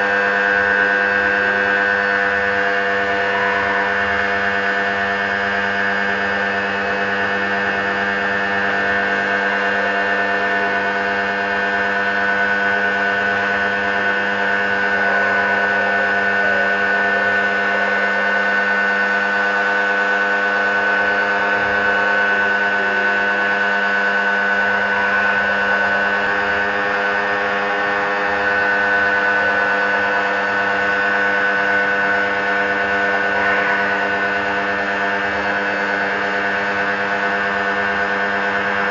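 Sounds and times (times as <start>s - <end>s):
pressure washer motor humming: 0.0s - 38.9s.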